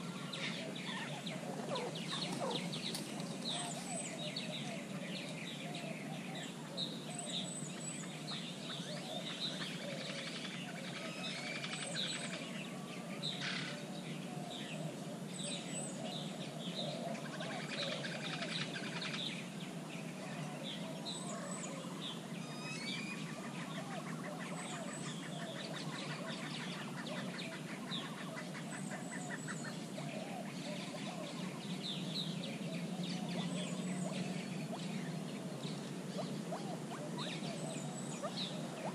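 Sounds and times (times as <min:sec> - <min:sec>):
birds chirping and whistling: 0:00.0 - 0:13.8, 0:20.7 - 0:38.9
lower repeated bird calls: 0:00.0 - 0:38.9.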